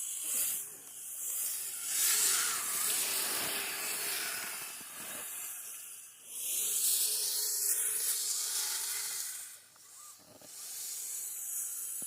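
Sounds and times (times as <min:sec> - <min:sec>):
tracks hissing through snow: 0:00.0 - 0:12.0.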